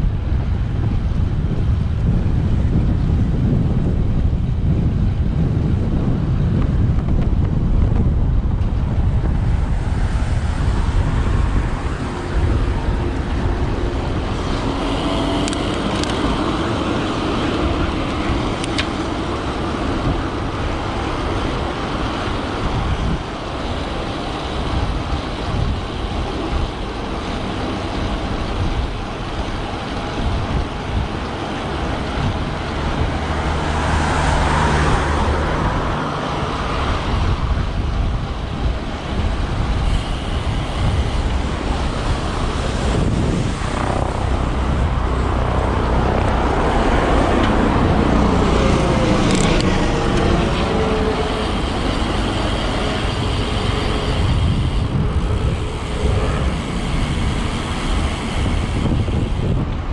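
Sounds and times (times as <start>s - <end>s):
motor vehicle engine: 0.0s - 59.9s
road traffic passing: 0.0s - 59.9s
wind rumbling on microphone: 0.0s - 59.9s.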